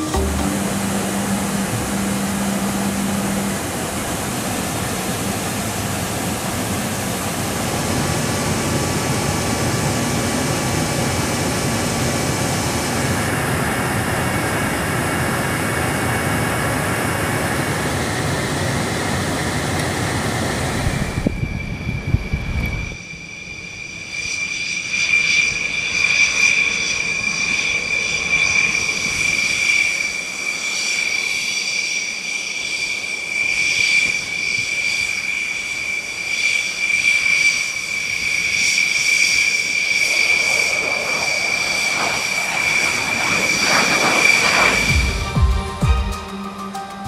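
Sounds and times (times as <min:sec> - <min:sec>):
jet engines idling: 0:00.0 - 0:47.0.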